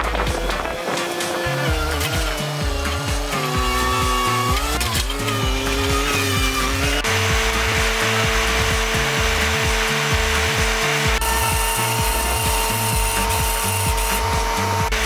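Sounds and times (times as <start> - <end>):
background music with beat: 0.0 - 15.0
winch motor whining: 0.0 - 15.0.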